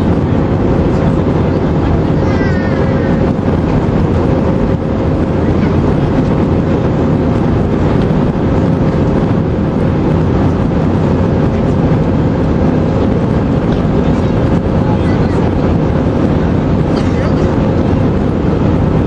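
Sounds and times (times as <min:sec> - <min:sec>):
jet engine and airflow roar: 0:00.0 - 0:19.0
steady low hum: 0:00.0 - 0:19.0.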